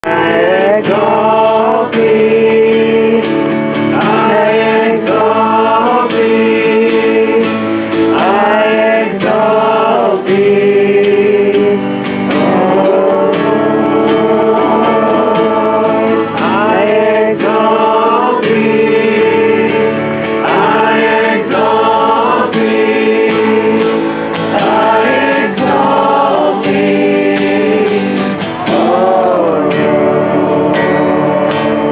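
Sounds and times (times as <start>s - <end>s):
acoustic guitar: 0.0s - 31.9s
group singing gospel song: 0.0s - 31.9s.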